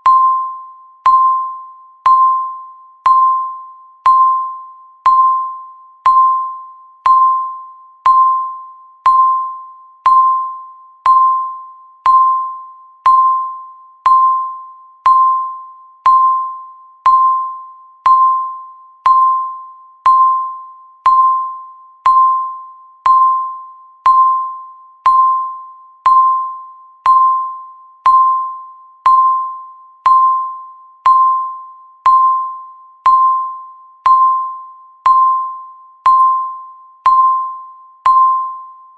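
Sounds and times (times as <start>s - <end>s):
countdown timer beeping: 0.0s - 38.8s.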